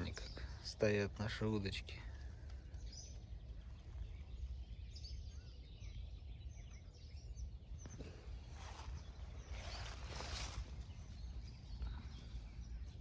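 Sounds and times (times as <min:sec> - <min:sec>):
distant birds chirping: 0:00.0 - 0:13.0
steady low rumble: 0:00.0 - 0:13.0.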